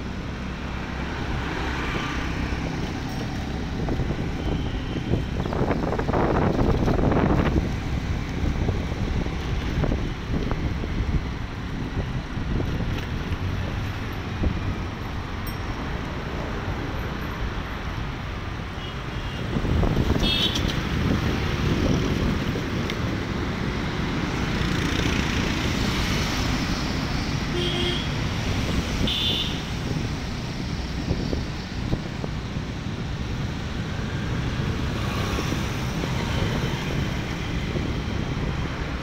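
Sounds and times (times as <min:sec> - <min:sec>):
street traffic: 0:00.0 - 0:39.0
wind rumbling on microphone: 0:00.1 - 0:18.7, 0:19.4 - 0:39.0.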